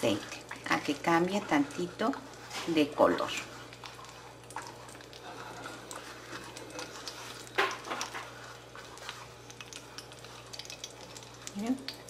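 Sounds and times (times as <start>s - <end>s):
chiles sizzling in hot oil: 0.0s - 12.0s.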